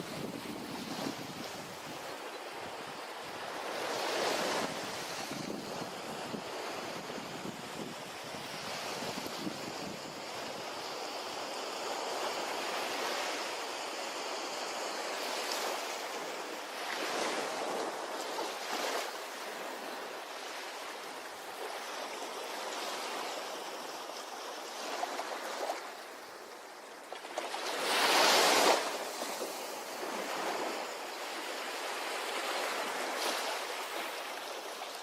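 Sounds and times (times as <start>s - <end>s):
ocean waves washing onto beach: 0.0s - 35.0s.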